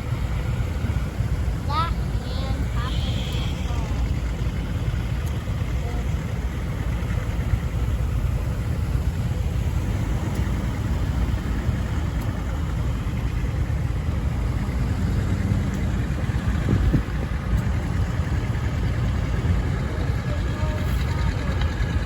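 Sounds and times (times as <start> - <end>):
tractor engine rumbling: 0.0 - 22.0.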